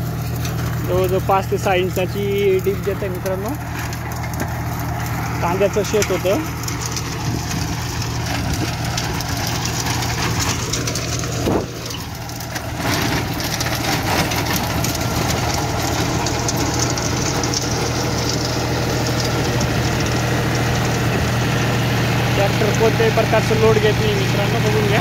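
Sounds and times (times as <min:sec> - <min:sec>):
rotavator churning soil: 0:00.0 - 0:25.0
tractor diesel engine running: 0:00.0 - 0:25.0.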